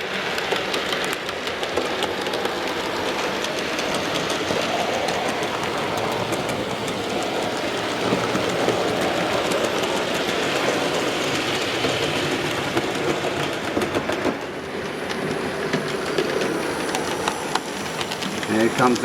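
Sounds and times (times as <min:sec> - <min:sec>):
model train wheels and motor rumbling: 0:00.0 - 0:19.0
wheels clicking over rail joints: 0:00.0 - 0:19.0.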